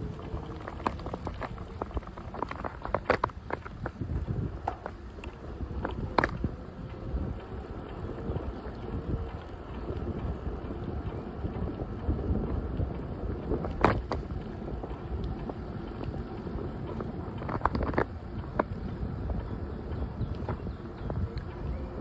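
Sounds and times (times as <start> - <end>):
bicycle ride rumble: 0.0 - 22.0
wind rumbling on microphone: 0.0 - 22.0.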